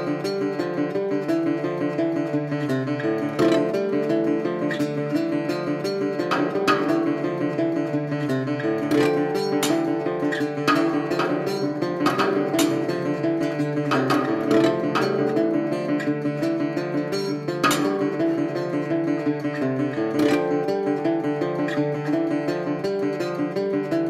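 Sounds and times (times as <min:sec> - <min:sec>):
acoustic guitar plucking: 0:00.0 - 0:24.0.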